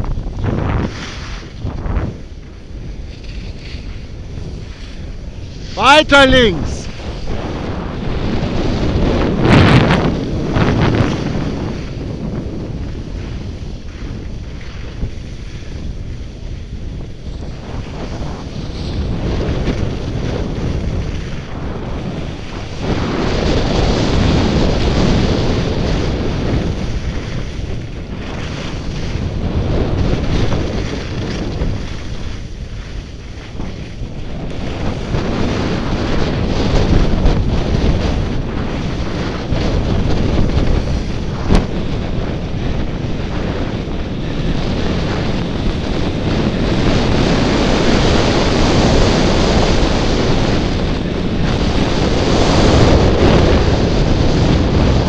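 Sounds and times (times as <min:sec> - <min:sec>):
skis scraping over snow: 0:00.0 - 0:55.0
wind buffeting microphone: 0:00.0 - 0:55.0.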